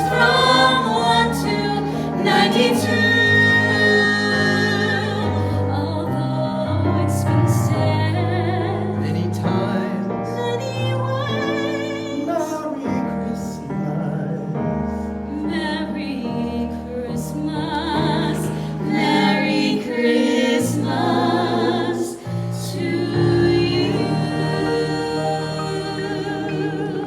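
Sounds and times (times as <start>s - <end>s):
piano accompaniment: 0.0s - 27.0s.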